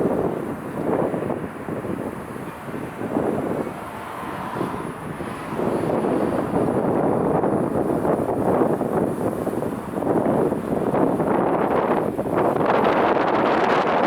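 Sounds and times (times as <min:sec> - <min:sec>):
gusty wind buffeting microphone: 0:00.0 - 0:14.0
jet engines droning: 0:00.0 - 0:14.0.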